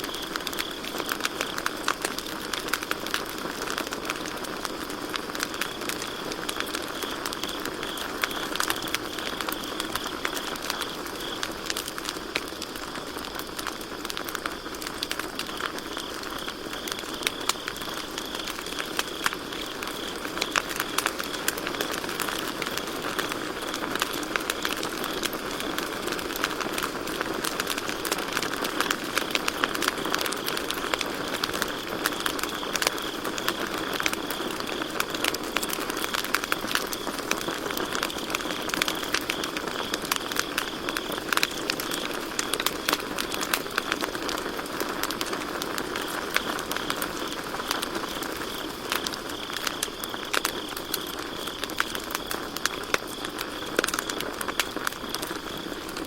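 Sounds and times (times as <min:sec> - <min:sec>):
campfire crackling and popping: 0:00.0 - 0:56.0
crickets chirping: 0:00.0 - 0:56.0.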